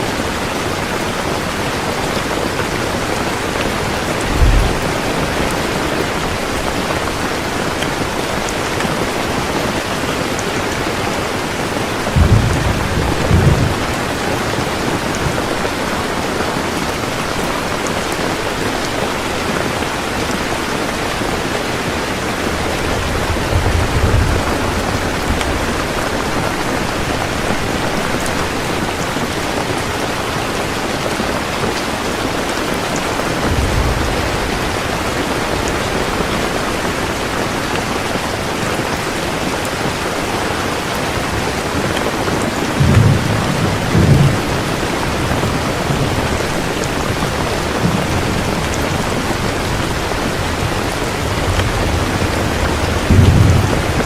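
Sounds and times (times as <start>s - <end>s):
thunder rumbling: 0.0s - 16.9s, 19.6s - 29.8s, 32.2s - 39.8s, 40.5s - 54.0s
heavy rain pouring: 0.0s - 54.0s.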